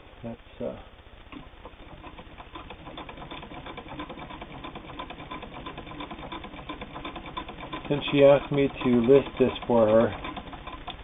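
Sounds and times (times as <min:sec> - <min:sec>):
hand-cranked sewing machine clicking: 0:01.3 - 0:11.0.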